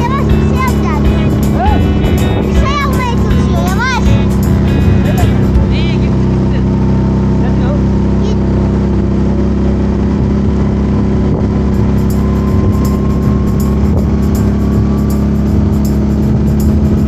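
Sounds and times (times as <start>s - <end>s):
atv engine droning: 0.0s - 17.0s.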